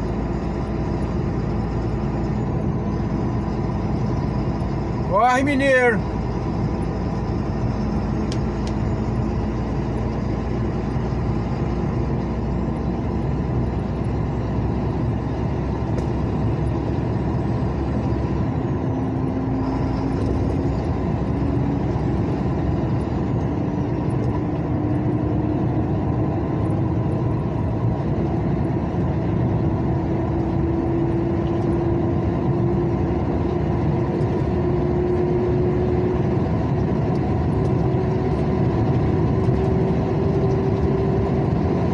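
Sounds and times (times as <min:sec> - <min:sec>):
vehicle engine: 0:00.0 - 0:41.9.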